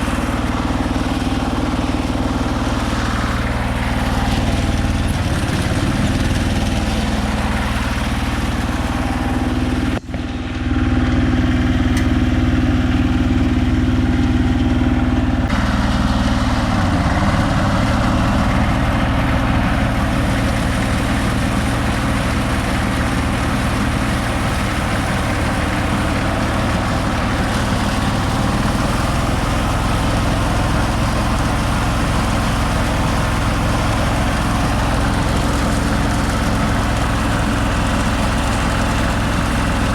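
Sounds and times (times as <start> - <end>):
harvester engine drone: 0.0 - 39.9.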